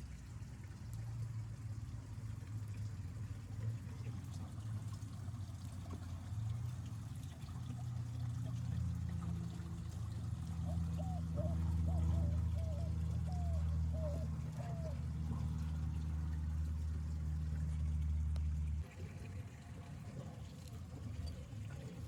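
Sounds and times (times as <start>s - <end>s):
water trickling and pouring: 0.0s - 22.0s.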